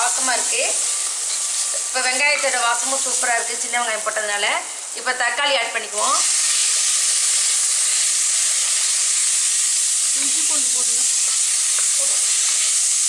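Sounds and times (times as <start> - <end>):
tomato sizzling in hot oil: 0.0 - 13.0.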